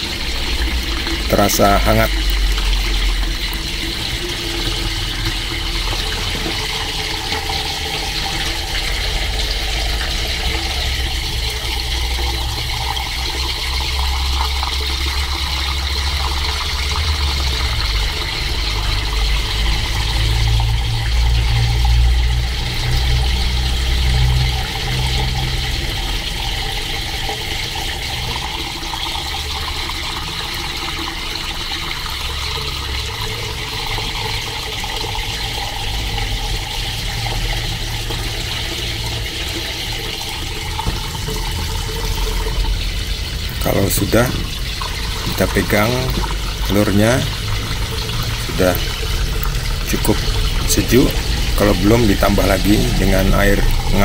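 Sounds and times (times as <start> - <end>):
tap water running into a saucepan: 0.0 - 54.0.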